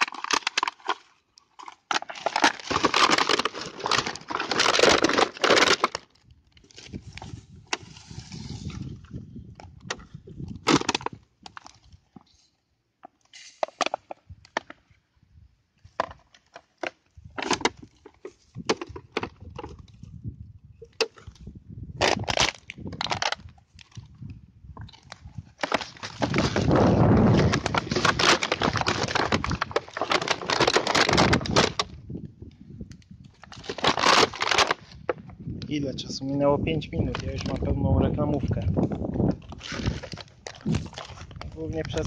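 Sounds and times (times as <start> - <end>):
plastic bottles crushed underfoot: 0.0 - 12.3, 13.0 - 15.0, 15.8 - 20.2, 20.8 - 35.6, 36.9 - 42.0.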